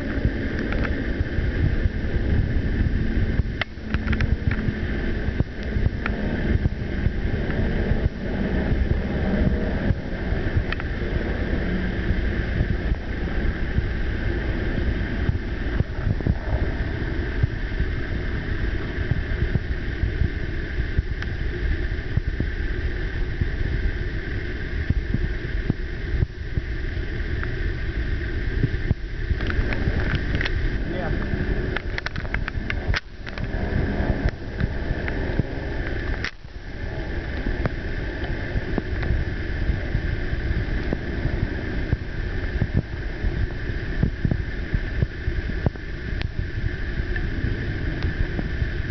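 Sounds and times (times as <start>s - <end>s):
propeller aircraft drone: 0.0s - 48.9s
wind rumbling on microphone: 0.0s - 48.9s.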